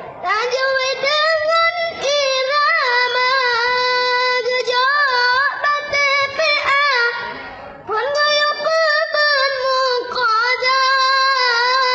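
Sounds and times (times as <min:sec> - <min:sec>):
child singing: 0:00.2 - 0:07.3, 0:07.9 - 0:11.9.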